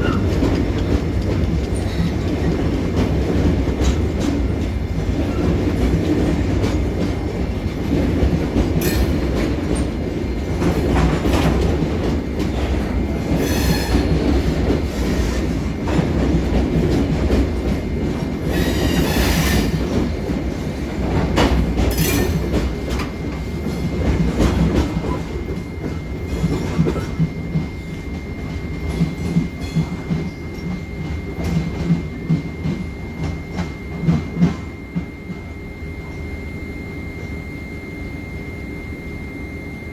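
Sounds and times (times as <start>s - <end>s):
freight train rumbling past: 0.0s - 36.4s.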